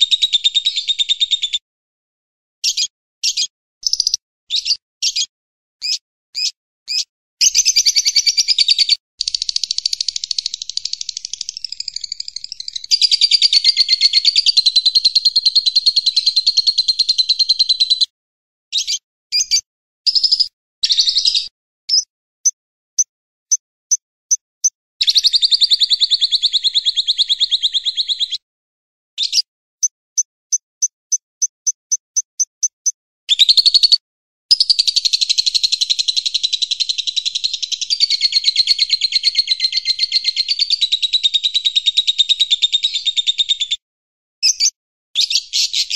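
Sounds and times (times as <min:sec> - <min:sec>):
recorded birdsong trills: 0:00.0 - 0:01.6, 0:02.6 - 0:18.1, 0:18.7 - 0:22.1, 0:25.0 - 0:28.4, 0:29.2 - 0:43.8, 0:44.4 - 0:45.9.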